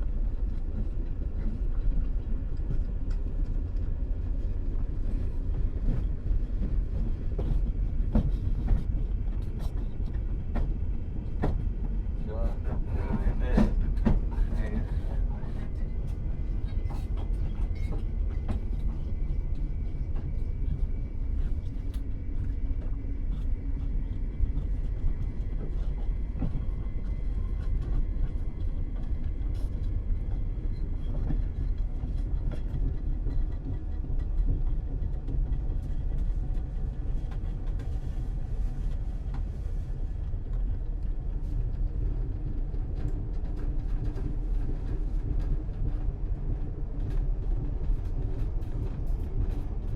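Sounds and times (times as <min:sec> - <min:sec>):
train wheels rumbling on track: 0:00.0 - 0:49.9.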